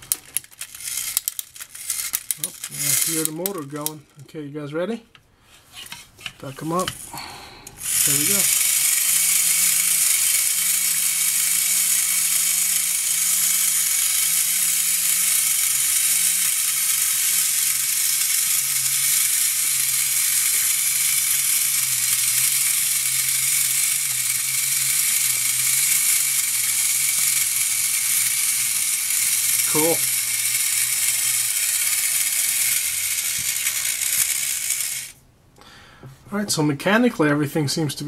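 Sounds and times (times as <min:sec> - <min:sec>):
clockwork toy motor whirring: 0:00.0 - 0:04.1, 0:05.8 - 0:35.2.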